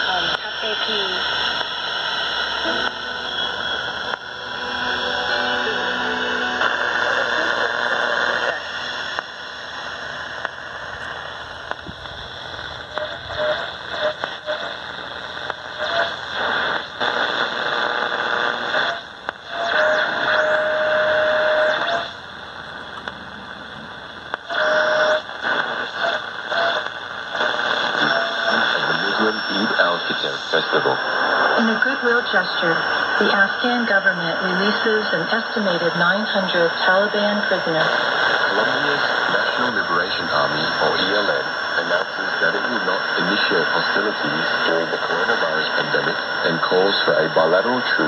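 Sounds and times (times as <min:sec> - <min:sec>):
radio tuning whistles: 0:00.0 - 0:22.2, 0:24.2 - 0:48.0
radio static hiss: 0:00.0 - 0:48.0.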